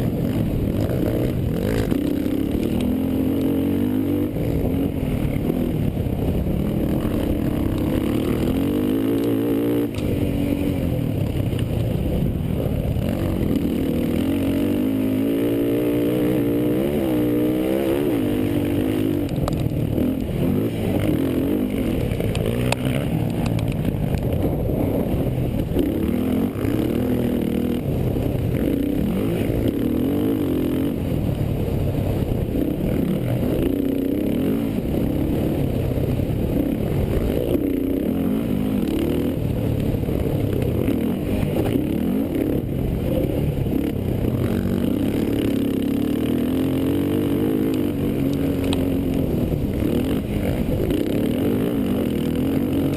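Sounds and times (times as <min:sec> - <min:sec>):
quad engines revving: 0:00.0 - 0:31.4, 0:32.3 - 0:52.9.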